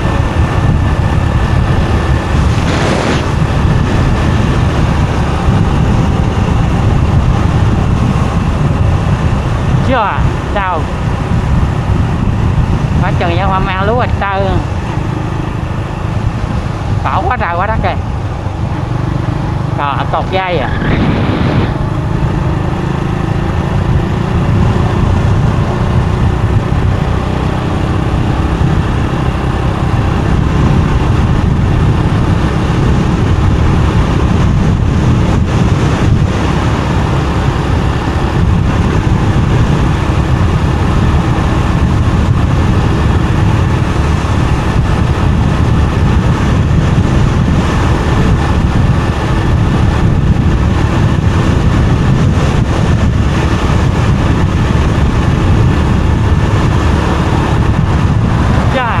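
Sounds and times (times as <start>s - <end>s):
motorbike engine rumble: 0.0s - 59.0s
road noise: 0.0s - 59.0s
wind buffeting microphone: 0.0s - 59.0s.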